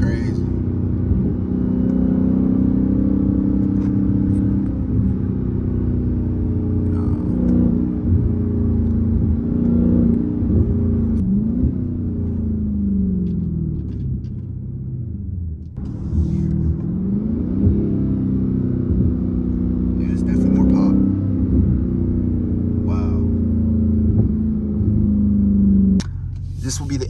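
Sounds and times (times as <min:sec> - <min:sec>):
car exhaust droning: 0:00.0 - 0:27.0.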